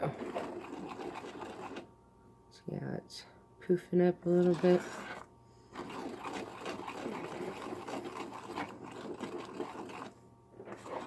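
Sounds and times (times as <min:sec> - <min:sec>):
mixture bubbling in a pan: 0:00.0 - 0:02.0, 0:04.0 - 0:11.0.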